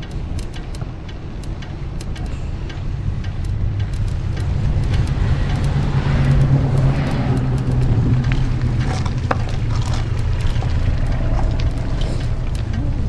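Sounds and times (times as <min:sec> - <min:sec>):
bicycle tyres rumbling: 0:00.0 - 0:13.0
wind on camera: 0:00.0 - 0:13.0.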